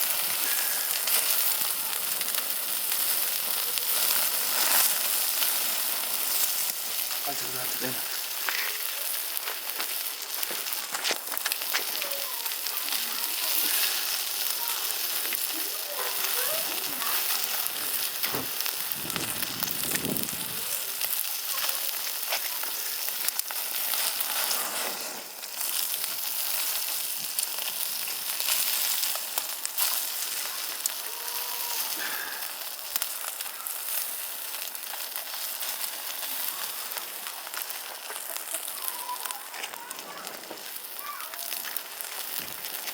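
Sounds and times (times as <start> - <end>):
meat sizzling on a grill: 0.0 - 42.9
wood fire crackling: 0.0 - 42.9.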